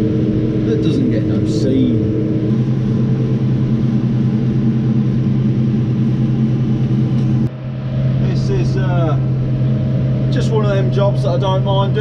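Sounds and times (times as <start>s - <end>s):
tractor engine low drone: 0.0s - 12.0s.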